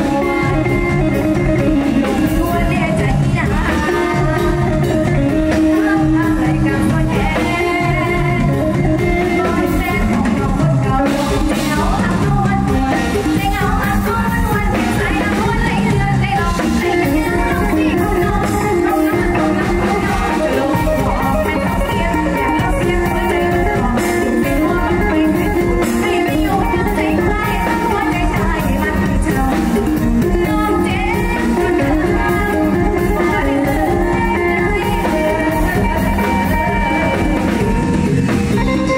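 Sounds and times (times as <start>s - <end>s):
girl singing into a microphone: 0.0s - 37.7s, 38.5s - 38.9s
live band with guitar and drums: 0.0s - 38.9s.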